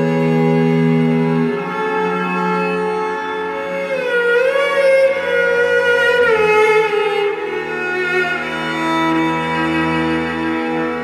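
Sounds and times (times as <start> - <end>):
bowed string melody: 0.0 - 11.0.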